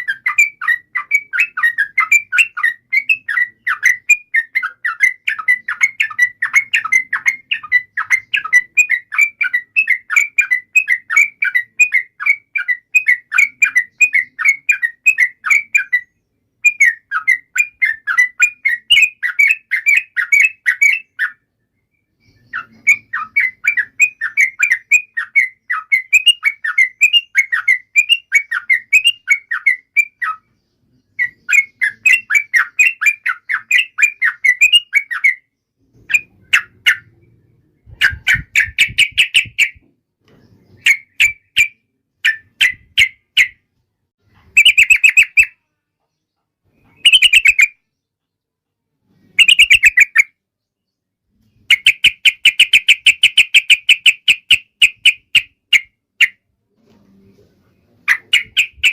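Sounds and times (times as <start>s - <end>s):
bulbul chirping: 0.0s - 21.4s, 22.1s - 43.7s, 44.5s - 45.6s, 46.8s - 47.9s, 49.3s - 50.4s, 51.6s - 56.4s, 58.1s - 58.9s.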